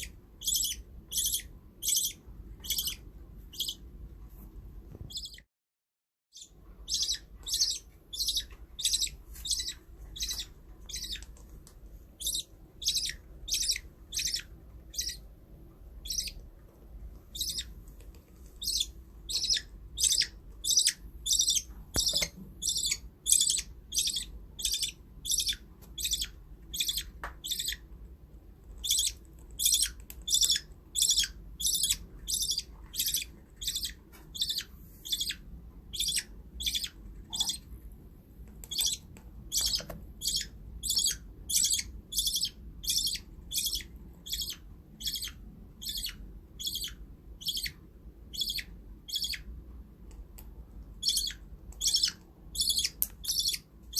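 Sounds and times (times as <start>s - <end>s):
budgie chirping: 0.0s - 3.9s, 5.0s - 5.5s, 6.4s - 11.3s, 12.2s - 15.3s, 16.0s - 16.4s, 17.3s - 17.8s, 18.6s - 27.9s, 28.8s - 37.7s, 38.6s - 49.5s, 51.0s - 53.7s.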